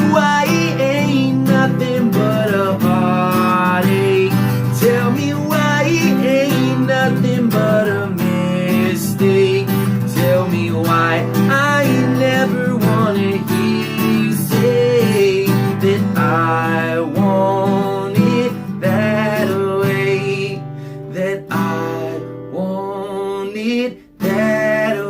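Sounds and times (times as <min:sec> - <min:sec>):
person singing: 0:00.0 - 0:25.0
strummed acoustic guitar: 0:00.0 - 0:25.0.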